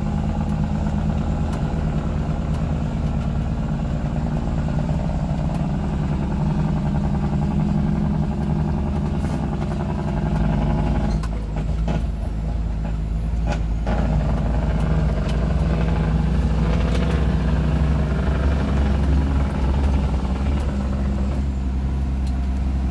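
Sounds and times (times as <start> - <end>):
rattles on rough gravel road: 0.0 - 22.9
vehicle engine running: 0.0 - 22.9.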